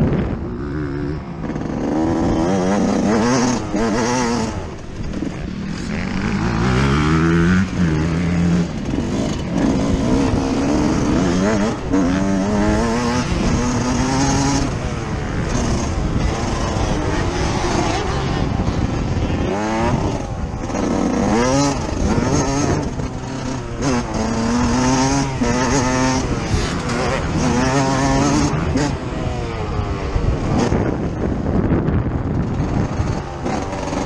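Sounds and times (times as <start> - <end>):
motocross engine revving: 0.0 - 34.0
track noise: 0.0 - 34.0
wind rumble: 0.0 - 34.0.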